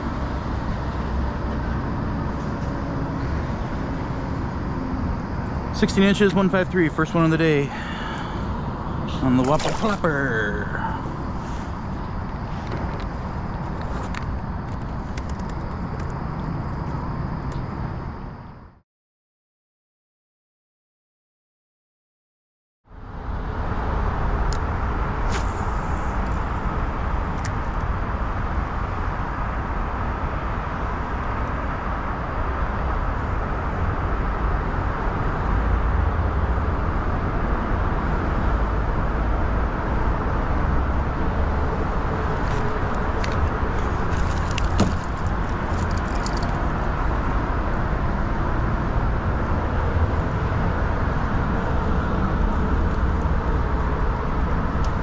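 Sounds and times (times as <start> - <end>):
traffic rumbling on bridge: 0.0 - 18.8, 22.9 - 55.0.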